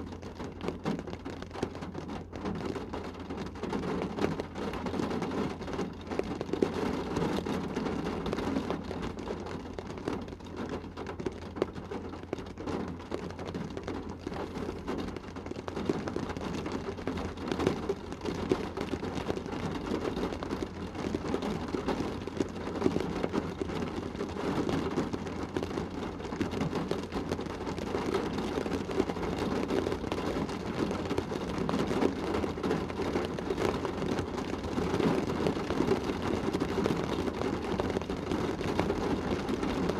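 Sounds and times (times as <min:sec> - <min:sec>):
rain pattering on car roof: 0:00.0 - 0:39.9.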